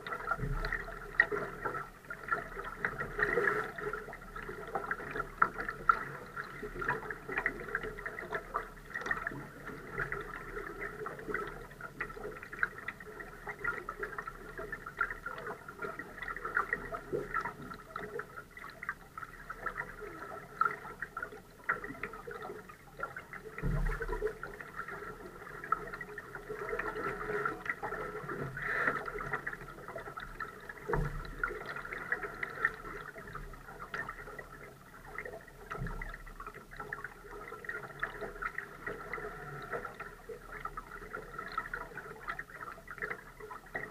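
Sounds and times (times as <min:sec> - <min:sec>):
water lapping against hull: 0:00.0 - 0:43.9.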